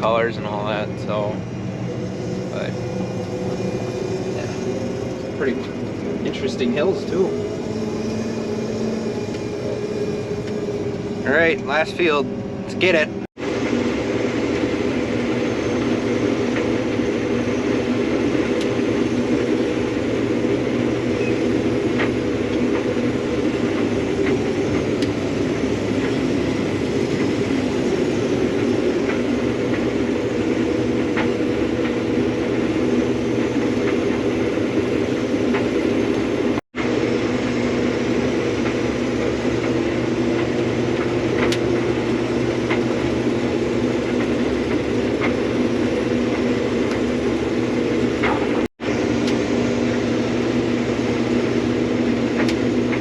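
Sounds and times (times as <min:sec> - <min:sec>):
combine harvester droning: 0:00.0 - 0:53.0.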